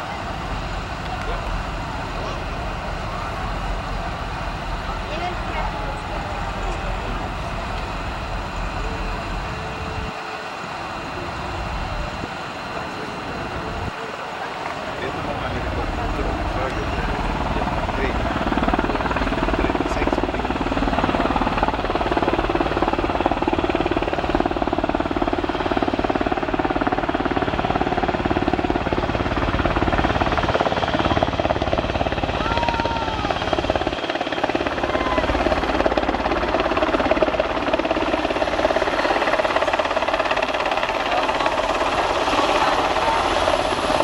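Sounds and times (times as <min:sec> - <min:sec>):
helicopter rotor and engines: 0:00.0 - 0:44.0.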